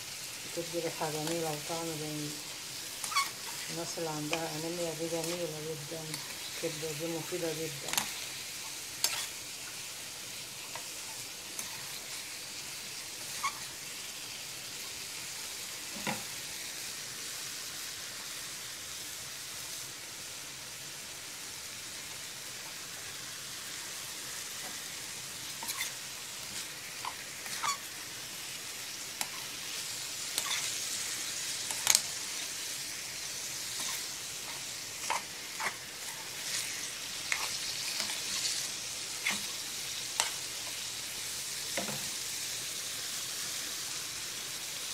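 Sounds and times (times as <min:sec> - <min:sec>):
food sizzling in frying pan: 0:00.0 - 0:44.9.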